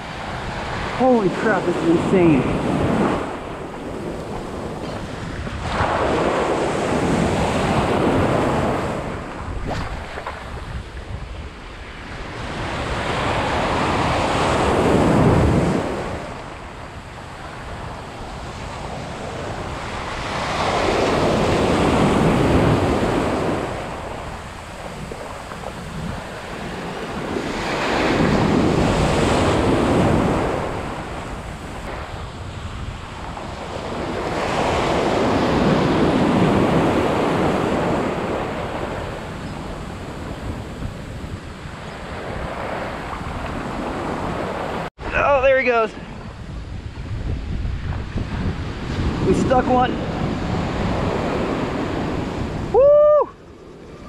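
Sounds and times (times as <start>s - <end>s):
ocean waves breaking: 0.0s - 54.0s
wind buffeting microphone: 0.0s - 54.0s.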